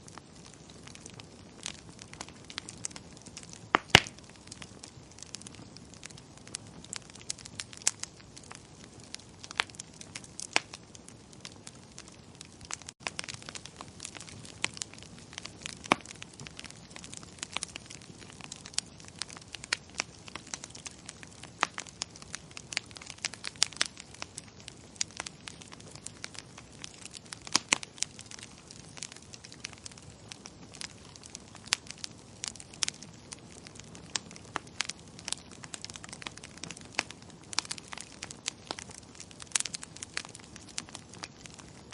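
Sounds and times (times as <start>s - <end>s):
fire hissing: 0.0s - 41.9s
fire popping and snapping: 0.0s - 41.9s.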